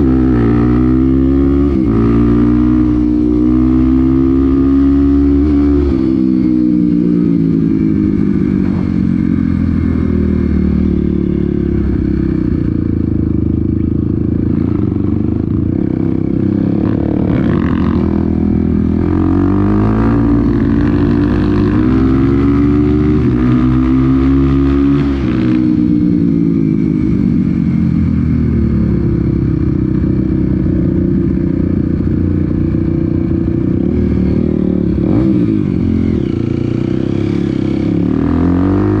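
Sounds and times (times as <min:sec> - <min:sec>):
off-road motorcycle engine revving: 0:00.0 - 0:27.5, 0:29.3 - 0:39.0.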